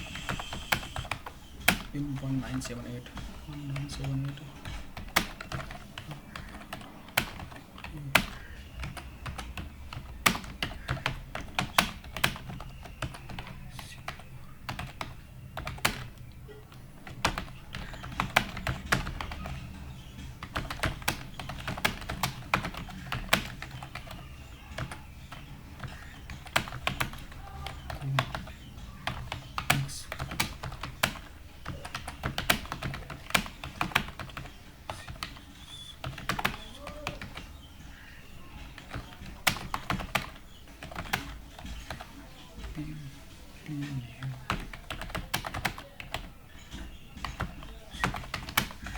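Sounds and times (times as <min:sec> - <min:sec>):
keyboard typing clicks: 0:00.0 - 0:42.8, 0:44.2 - 0:48.9.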